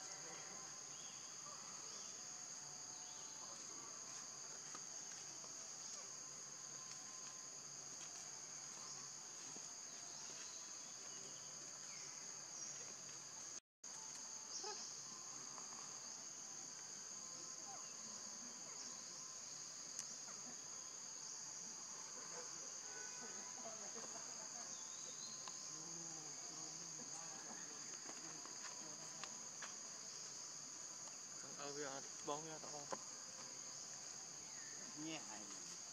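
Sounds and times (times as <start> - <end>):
insect chorus drone: 0.0 - 35.9.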